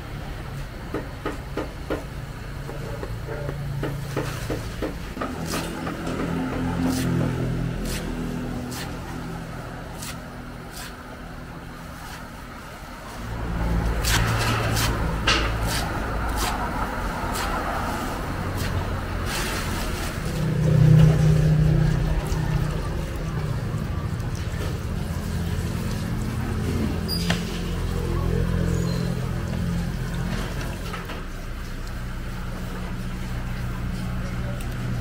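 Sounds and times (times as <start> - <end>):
vehicle engine rumbling: 1.2 - 35.0.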